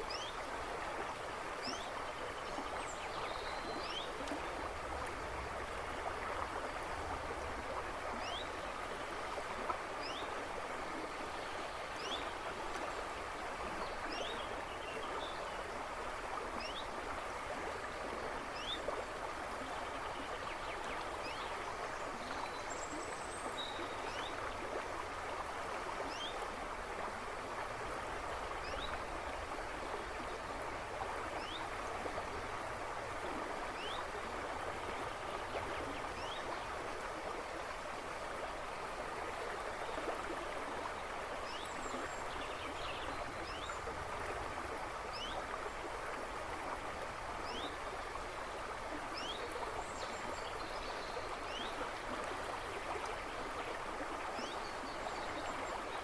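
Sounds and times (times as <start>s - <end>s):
river water rushing and babbling: 0.0s - 56.0s.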